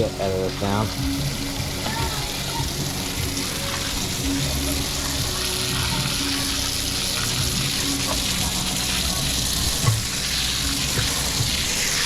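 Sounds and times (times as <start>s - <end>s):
hose spraying water: 0.0s - 12.0s.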